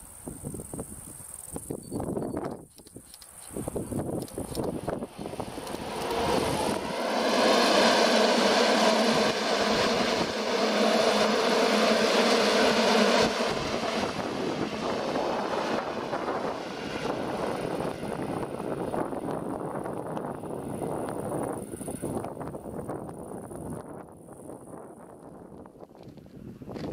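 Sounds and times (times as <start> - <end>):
electric locomotive humming: 3.2 - 25.8
coach wheels rumbling on rails: 3.4 - 26.9.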